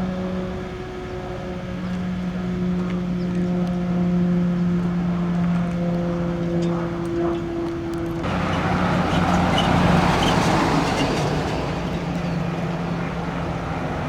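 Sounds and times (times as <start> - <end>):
fire engine running: 0.0 - 14.0.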